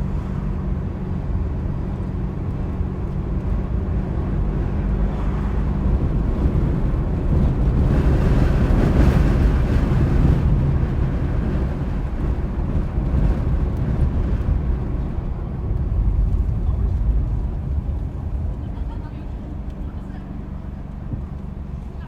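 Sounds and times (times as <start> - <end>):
car engine and road noise: 0.0 - 22.0
wind: 0.0 - 22.0.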